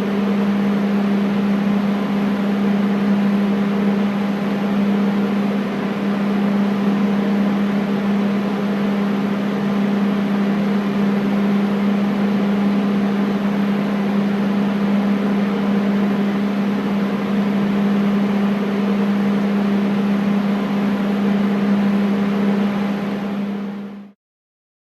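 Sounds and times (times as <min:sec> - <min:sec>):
air conditioner humming: 0:00.0 - 0:24.1.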